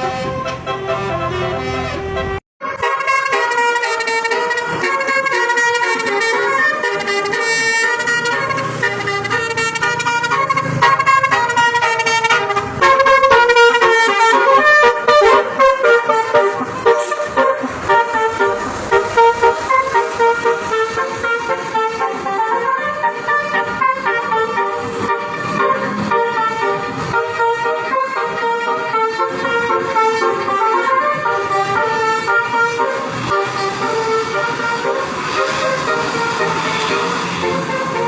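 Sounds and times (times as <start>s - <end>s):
multi-tone bus horn melody: 0.0s - 38.0s.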